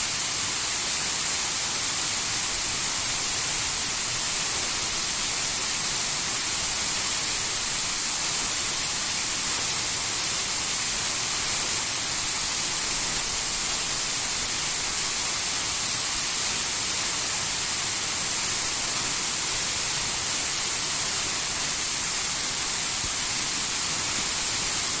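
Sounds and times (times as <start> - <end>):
waterfall hissing: 0.0 - 25.0.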